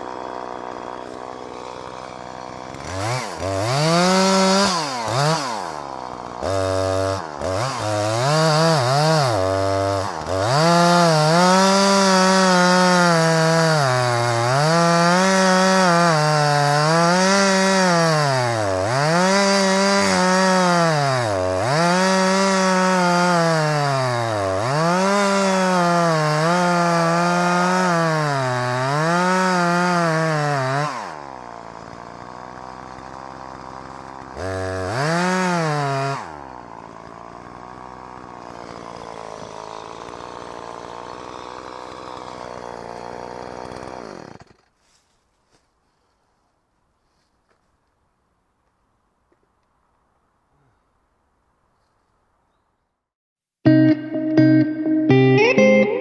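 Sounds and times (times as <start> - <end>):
chainsaw cutting wood: 0.0 - 46.4.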